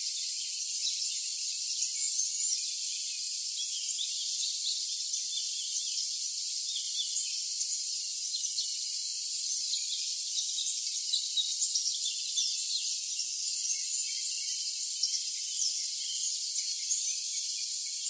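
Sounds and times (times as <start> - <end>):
cricket chorus: 0.0 - 18.0.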